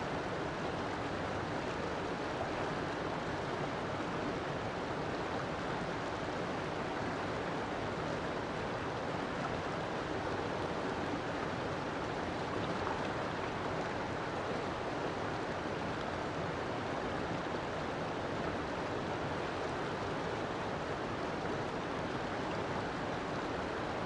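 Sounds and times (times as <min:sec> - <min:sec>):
river flowing over rocks: 0:00.0 - 0:24.0.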